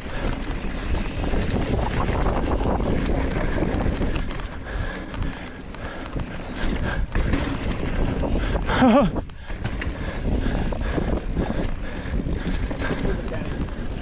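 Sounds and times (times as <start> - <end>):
bike rumbling and rattling: 0.0 - 14.0
wind buffeting microphone: 0.0 - 14.0.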